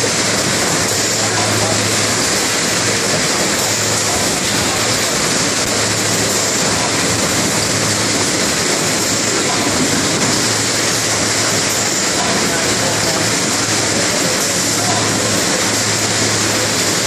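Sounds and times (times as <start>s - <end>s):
packing machine and conveyor noise: 0.0s - 17.0s.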